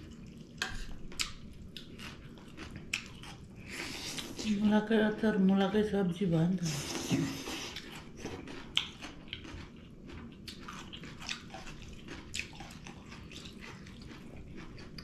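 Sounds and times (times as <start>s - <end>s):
people chewing and lip-smacking: 0.0s - 4.4s, 6.7s - 15.0s.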